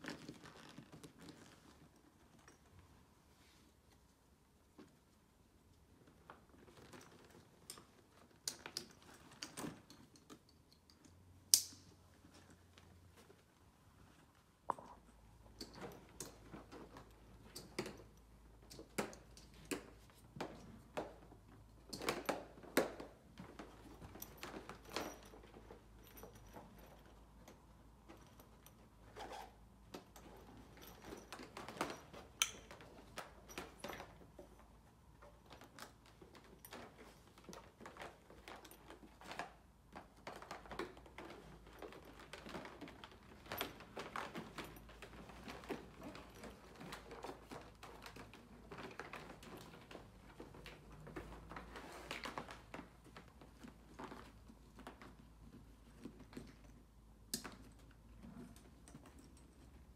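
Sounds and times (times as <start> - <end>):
stretcher straps and buckles clicking: 0.0 - 3.1, 5.8 - 59.9.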